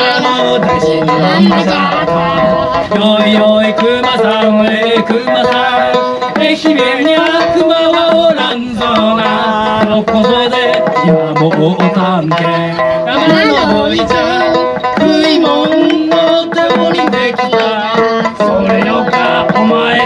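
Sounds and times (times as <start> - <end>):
hand drum percussion: 0.0 - 20.0
lute strumming: 0.0 - 20.0
man singing: 0.0 - 20.0.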